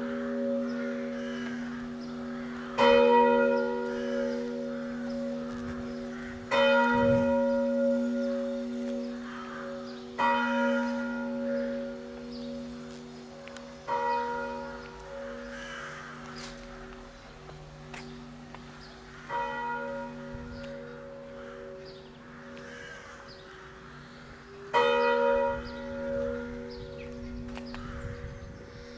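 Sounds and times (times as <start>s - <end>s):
church bell tolling: 0.0s - 28.9s.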